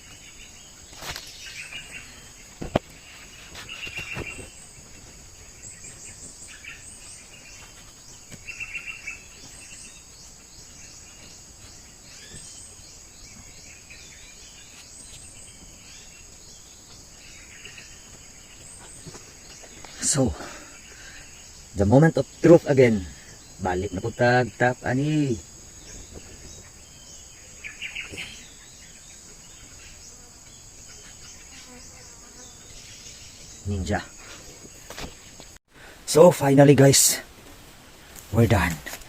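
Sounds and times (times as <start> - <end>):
birds chirping: 0.0 - 39.0
insects chirring: 0.0 - 39.0.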